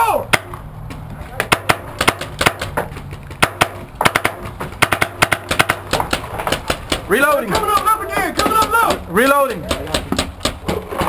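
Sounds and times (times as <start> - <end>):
paintball markers firing: 1.4 - 11.0.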